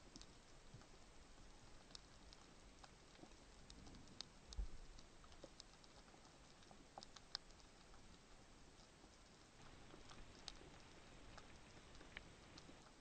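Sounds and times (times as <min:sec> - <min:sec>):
quiet hiss: 0:00.0 - 0:13.0
underwater crackle clicks: 0:00.0 - 0:13.0.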